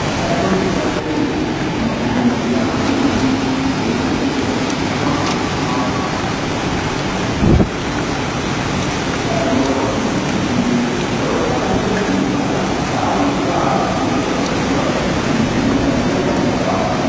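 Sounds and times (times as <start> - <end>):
heavy rain: 0.0 - 17.0
typhoon wind: 0.0 - 17.0.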